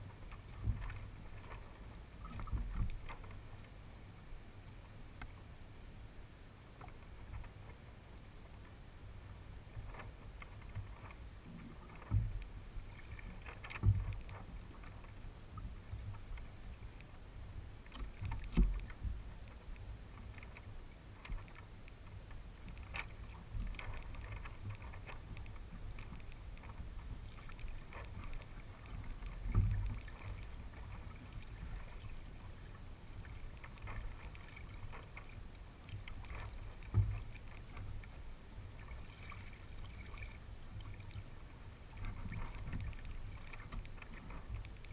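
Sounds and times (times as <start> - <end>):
waves thumping hull: 0.0 - 5.7, 6.5 - 44.9
steady low rumble: 0.0 - 44.9
water sloshing along hull: 0.0 - 44.9.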